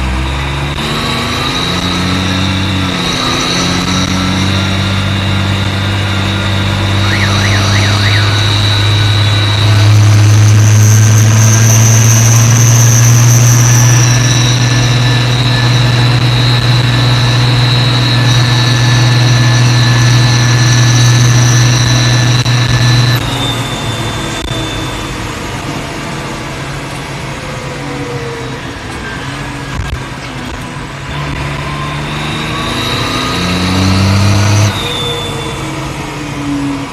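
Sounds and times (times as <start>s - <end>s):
tractor engine revving: 0.0s - 36.9s
turbo whistle: 0.1s - 25.5s, 31.1s - 36.2s.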